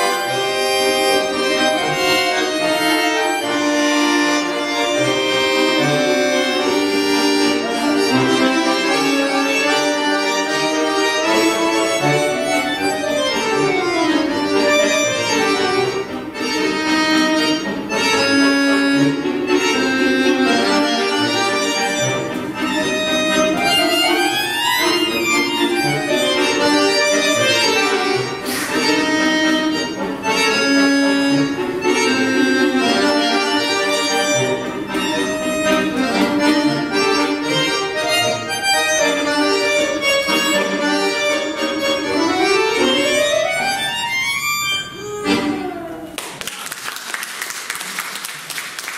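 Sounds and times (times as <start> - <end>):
button accordion playing a waltz: 0.0 - 46.2.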